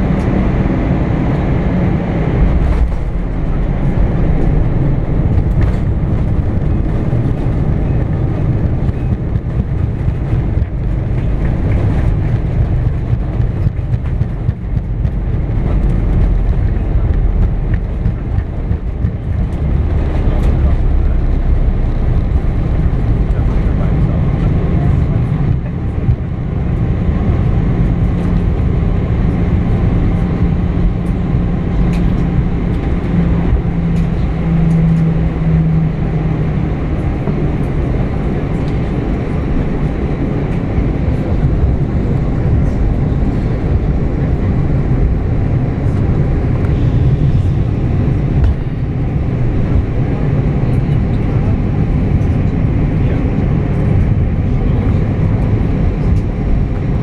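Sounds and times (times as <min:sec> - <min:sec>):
engine and wheel rumble: 0:00.0 - 0:57.0
low hum: 0:00.0 - 0:57.0.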